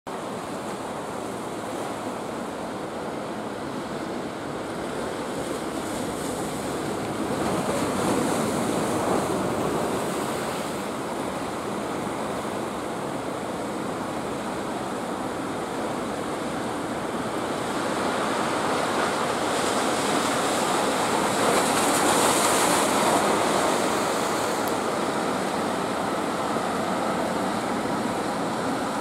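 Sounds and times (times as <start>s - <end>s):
sea surf washing ashore: 0.1s - 29.0s.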